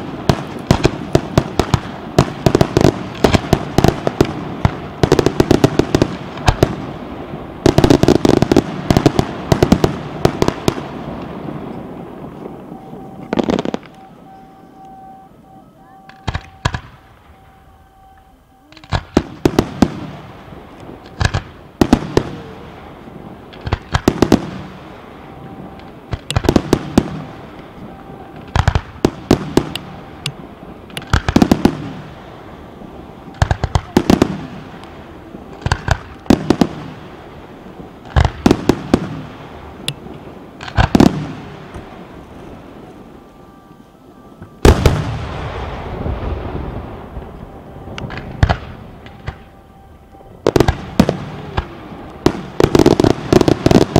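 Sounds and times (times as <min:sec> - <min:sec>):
fireworks bursting with sharp bangs: 0:00.0 - 0:53.9
fireworks crackling: 0:00.0 - 0:53.9.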